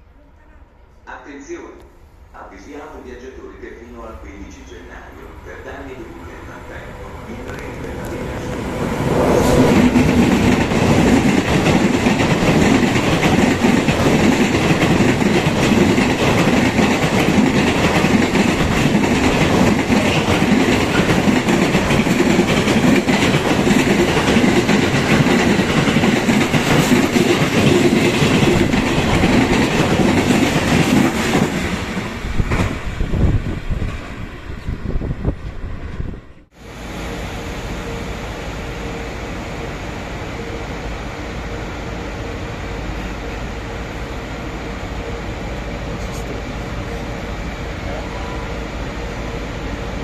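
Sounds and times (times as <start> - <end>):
train passing at speed: 0.0 - 50.0.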